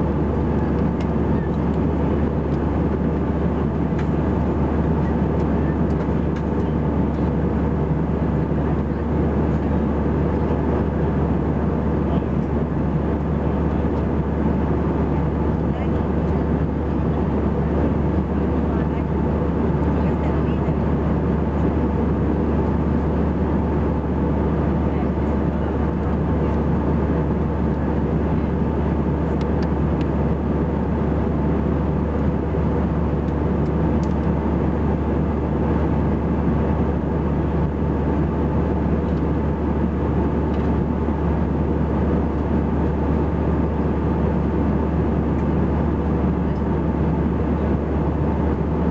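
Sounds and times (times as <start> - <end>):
airplane cabin noise: 0.0 - 48.9
constant low hum: 0.0 - 48.9.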